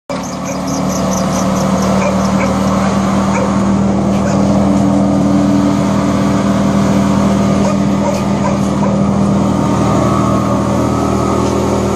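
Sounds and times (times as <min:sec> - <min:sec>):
wood chipper chipping log: 0:00.1 - 0:11.9.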